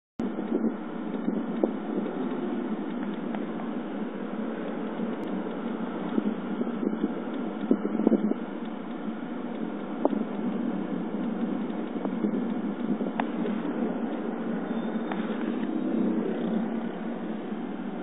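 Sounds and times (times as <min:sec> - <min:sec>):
light ticking rattle: 0:00.2 - 0:18.0
road and cabin noise: 0:00.2 - 0:18.0.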